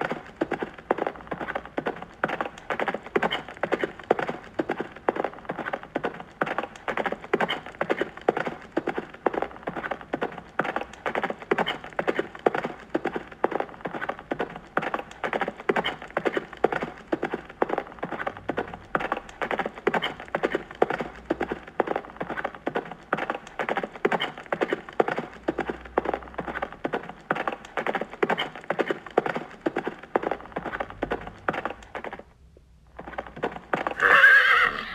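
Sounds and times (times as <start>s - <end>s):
horse hooves clip-clopping: 0.0s - 34.9s.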